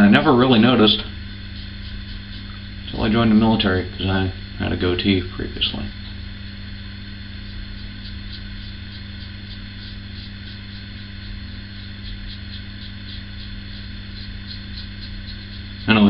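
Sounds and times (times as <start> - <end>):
razor scraping stubble: 0.0 - 16.0
steady electrical hum: 0.0 - 16.0.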